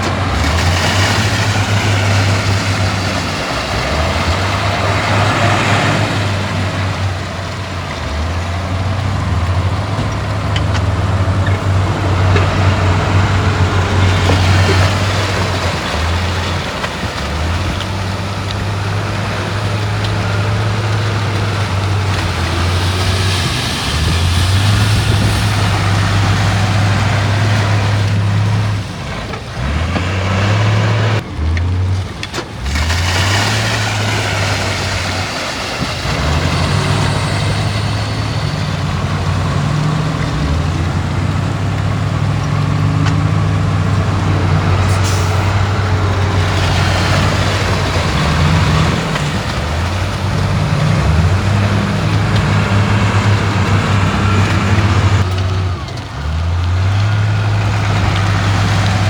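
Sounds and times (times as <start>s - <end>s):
diesel machinery engine drone: 0.0s - 59.0s
rushing clattering noise: 0.0s - 59.0s.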